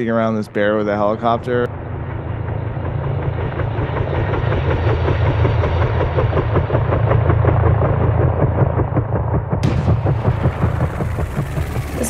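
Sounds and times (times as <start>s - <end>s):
helicopter engine low drone: 0.0s - 12.0s
helicopter rotor beating: 0.0s - 12.0s.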